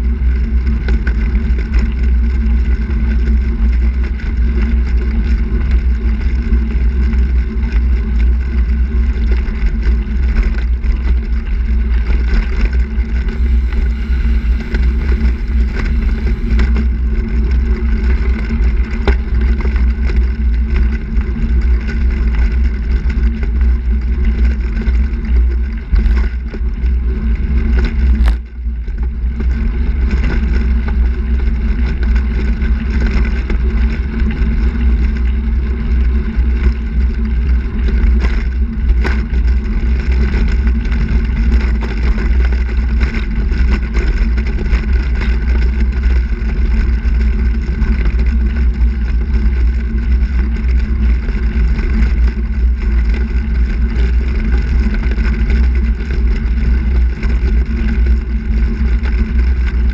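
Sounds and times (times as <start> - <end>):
wind rumble on microphone: 0.0 - 59.9
tyre and road noise: 9.3 - 59.9.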